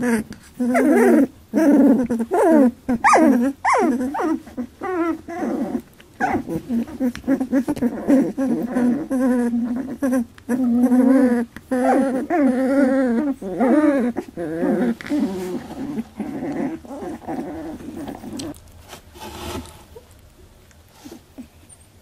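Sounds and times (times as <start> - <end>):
puppies whining and squealing: 0.0 - 18.6.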